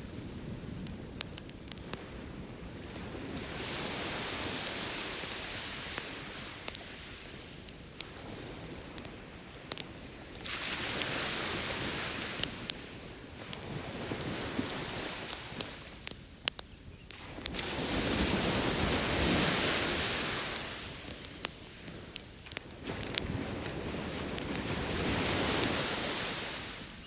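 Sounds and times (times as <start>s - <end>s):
campfire crackling and popping: 0.0s - 26.8s
ocean waves washing onto beach: 0.0s - 27.0s.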